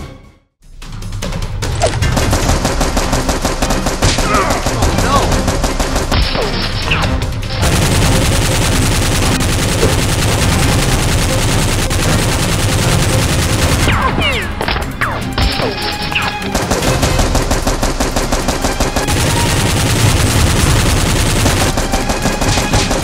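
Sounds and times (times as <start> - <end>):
rapid automatic gunfire: 2.0 - 6.8, 7.6 - 14.6, 16.3 - 23.0.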